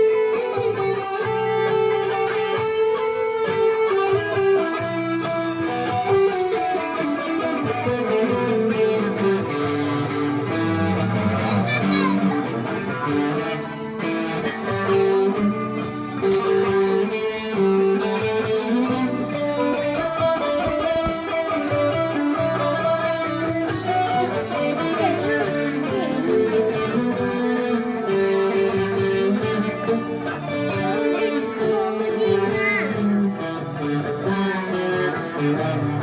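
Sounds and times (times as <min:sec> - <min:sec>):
plucked and strummed guitar: 0:00.0 - 0:36.0.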